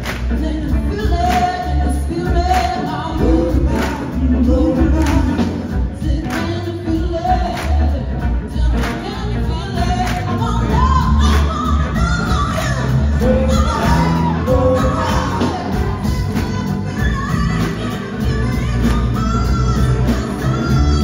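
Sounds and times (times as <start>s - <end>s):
live rock-soul band: 0.0s - 21.0s
woman singing: 0.0s - 21.0s.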